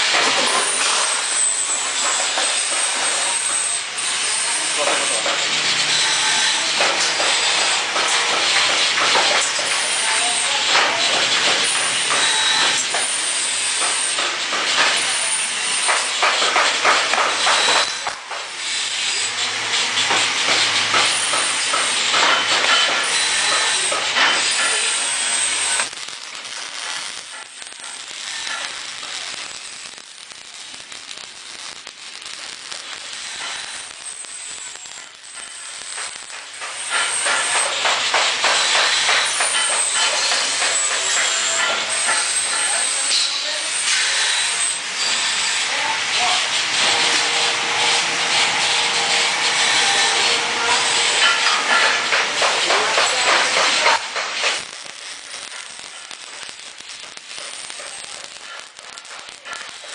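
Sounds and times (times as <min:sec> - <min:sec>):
welding arc crackling and hissing: 0:00.0 - 0:59.9.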